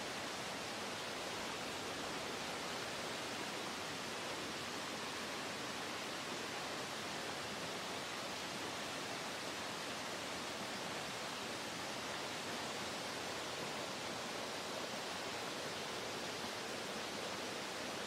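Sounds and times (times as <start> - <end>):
water rushing down rocky creek: 0.0 - 18.0.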